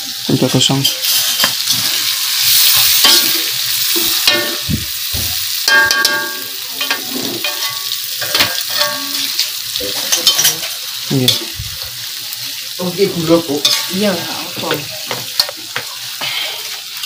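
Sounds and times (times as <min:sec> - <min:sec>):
food sizzling in hot oil: 0:00.0 - 0:17.0
utensil clacking and scraping wok: 0:00.1 - 0:17.0.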